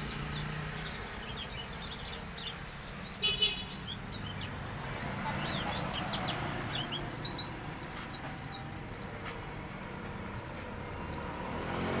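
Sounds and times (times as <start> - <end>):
bird high chirps: 0.0 - 9.8.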